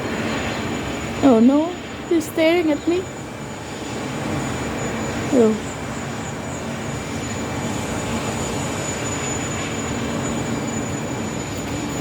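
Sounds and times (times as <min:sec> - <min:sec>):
steady background rumble: 0:00.0 - 0:12.0.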